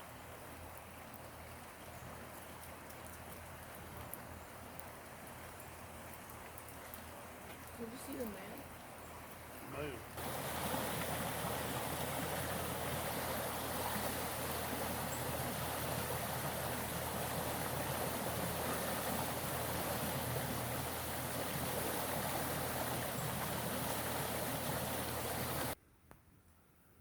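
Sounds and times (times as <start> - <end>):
water stream rushing: 0.0 - 25.8.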